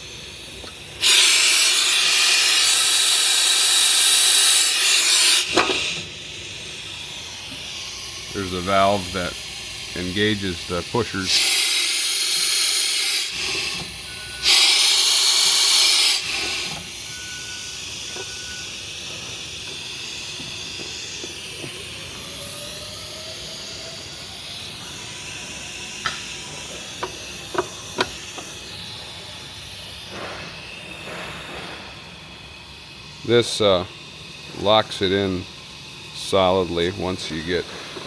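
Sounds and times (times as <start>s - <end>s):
compressed air hissing: 0.0s - 38.0s.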